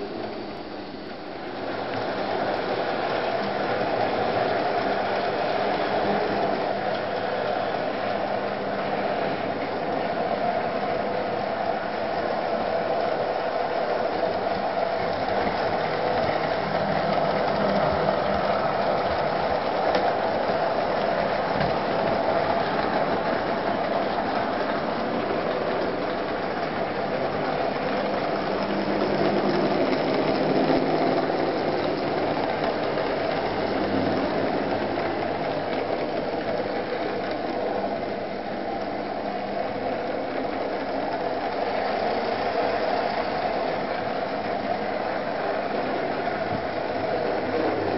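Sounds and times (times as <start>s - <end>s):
train wheels rattling on track: 0.0s - 47.9s.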